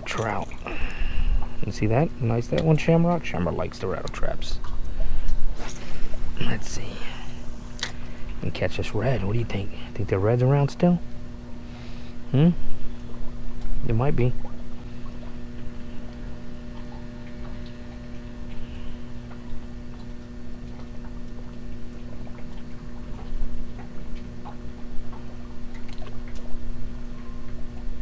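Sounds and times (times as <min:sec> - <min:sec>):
low electrical hum: 0:00.0 - 0:28.0
water lapping around a dock: 0:00.0 - 0:28.0.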